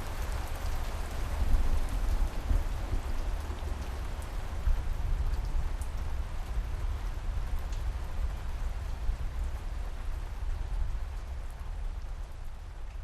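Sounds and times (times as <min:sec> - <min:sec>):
rainfall hiss: 0:00.0 - 0:13.0.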